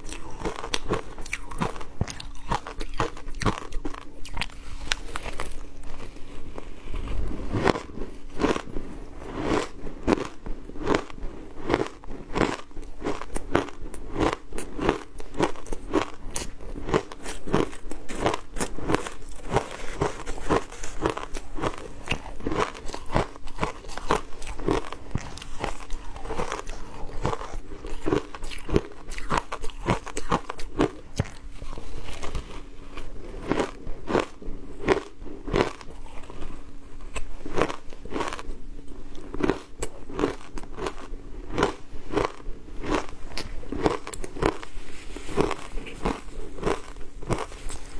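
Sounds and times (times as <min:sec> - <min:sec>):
ice being chewed crunching: 0:00.0 - 0:47.9.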